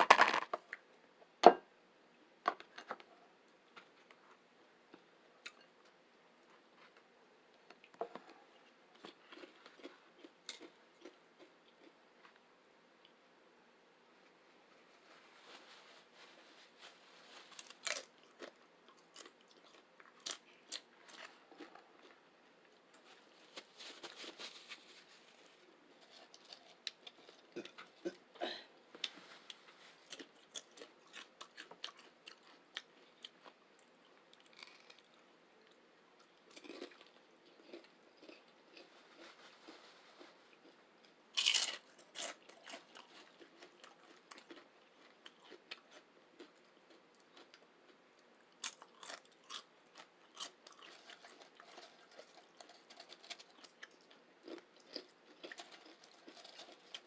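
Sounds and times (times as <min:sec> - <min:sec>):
chewing and crunching chips: 0:02.6 - 0:13.2, 0:16.0 - 0:57.0.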